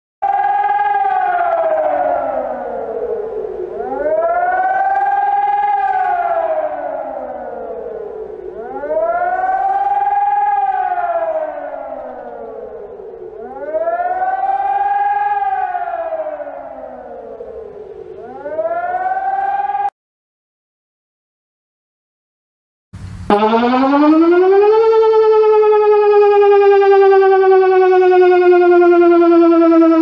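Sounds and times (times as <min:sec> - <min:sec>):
warning siren wailing: 0:00.2 - 0:19.9, 0:23.3 - 0:30.0.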